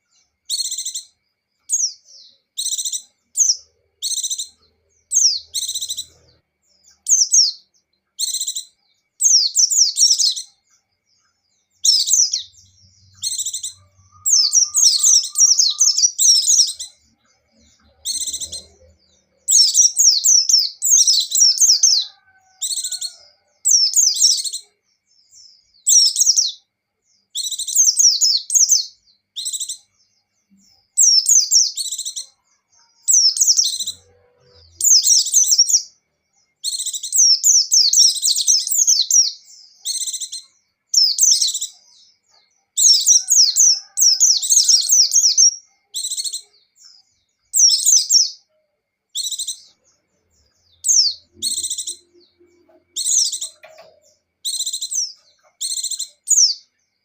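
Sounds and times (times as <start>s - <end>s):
bird twittering: 0.0s - 26.7s, 27.3s - 29.9s, 30.6s - 36.0s, 36.6s - 48.5s, 49.1s - 56.7s.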